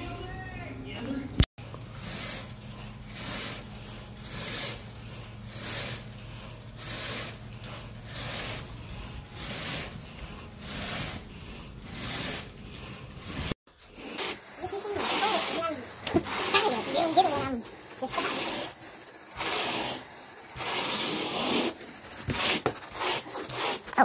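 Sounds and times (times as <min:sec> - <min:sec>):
carpet rake scratching rug: 0:01.6 - 0:24.0.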